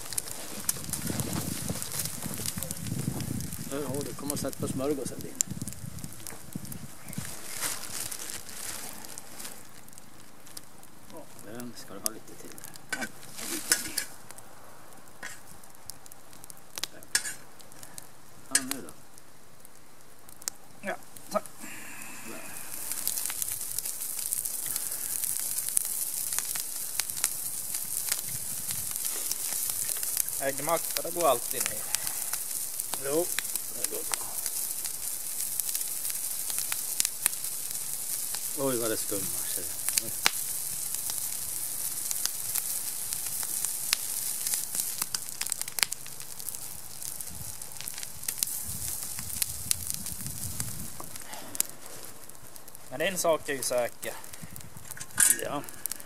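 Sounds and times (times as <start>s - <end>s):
food sizzling in a pan: 0.0s - 9.7s, 12.0s - 14.2s, 16.9s - 18.8s, 20.8s - 56.0s
campfire crackling: 0.0s - 56.0s.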